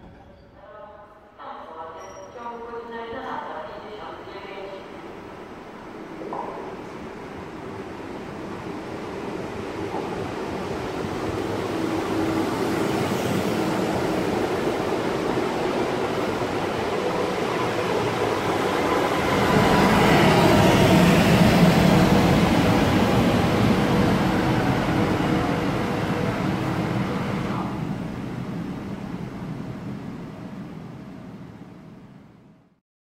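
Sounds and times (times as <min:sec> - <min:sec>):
train wheel and rail rumble: 0:00.0 - 0:32.7.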